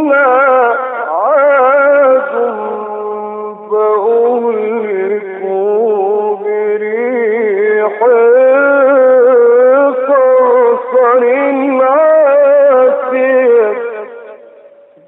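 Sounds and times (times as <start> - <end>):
man chanting melodic recitation: 0.0 - 14.5.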